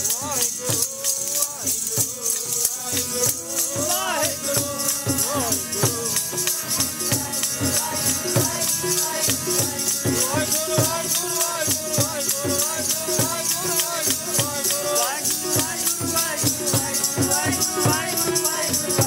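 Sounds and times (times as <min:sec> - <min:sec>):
continuous jingling rattle: 0:00.0 - 0:19.0.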